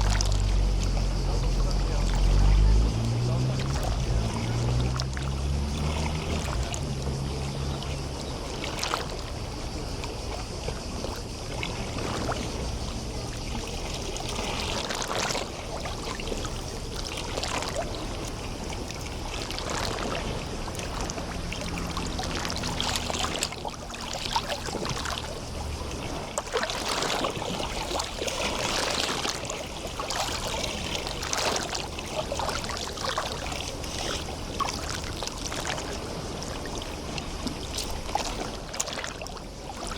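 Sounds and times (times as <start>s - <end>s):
boat engine drone: 0.0s - 39.9s
waves lapping and splashing: 0.0s - 39.9s.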